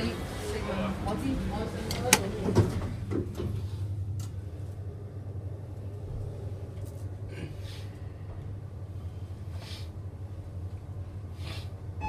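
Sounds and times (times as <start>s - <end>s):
low hum inside lift car: 0.0s - 12.0s.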